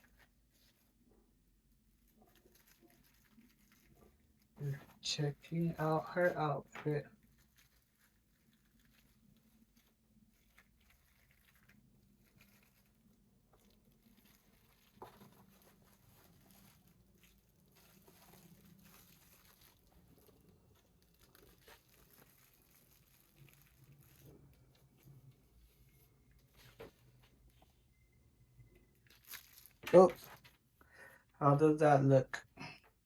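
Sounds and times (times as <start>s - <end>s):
faint handling noises: 0.0s - 30.9s.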